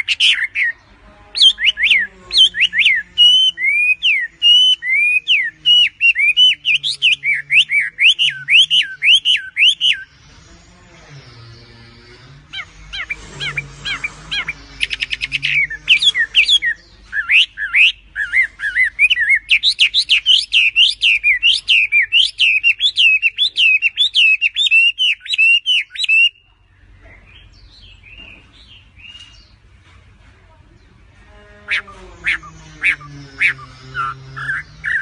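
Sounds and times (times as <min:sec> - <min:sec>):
faint bird calls: 0:00.0 - 0:29.9, 0:30.8 - 0:35.0
songbird singing: 0:00.0 - 0:35.0.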